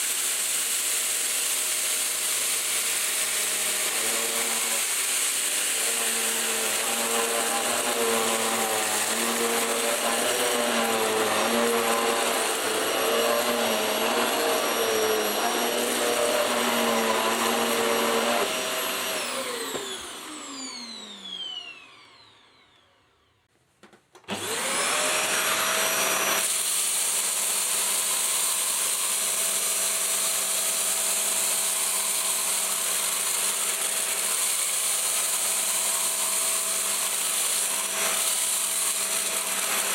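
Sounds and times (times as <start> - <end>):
vacuum cleaner running: 0.0 - 23.4, 24.2 - 39.9.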